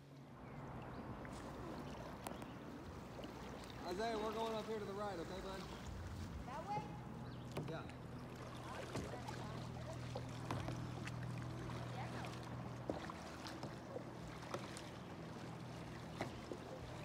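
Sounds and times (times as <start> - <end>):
paddle splashes and drips: 0.0 - 17.0.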